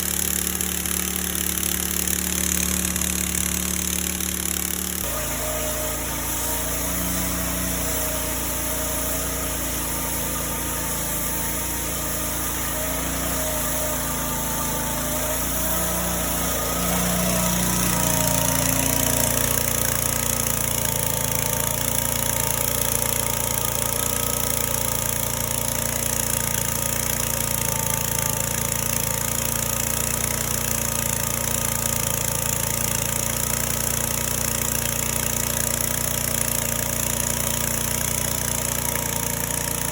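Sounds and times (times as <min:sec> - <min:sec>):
pressure washer motor drone: 0:00.0 - 0:39.9.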